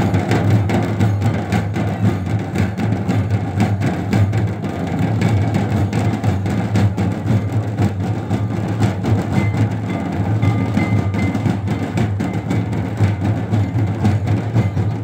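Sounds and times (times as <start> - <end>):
hand drums in fast rhythm: 0.0 - 15.0.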